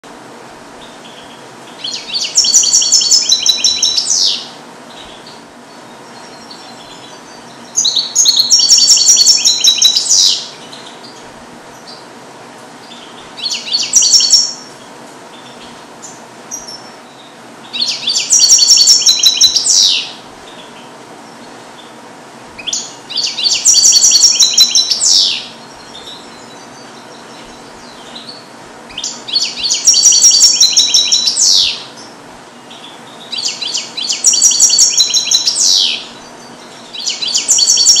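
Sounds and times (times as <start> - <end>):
goldfinch twittering trills: 0.8 - 12.0, 12.8 - 22.0, 22.6 - 38.0.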